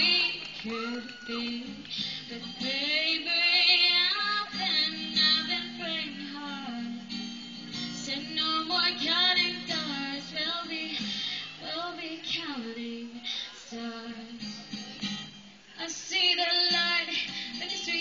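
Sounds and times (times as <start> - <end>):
woman singing pop song: 0.0 - 14.8, 15.8 - 18.0
acoustic guitar: 0.0 - 18.0.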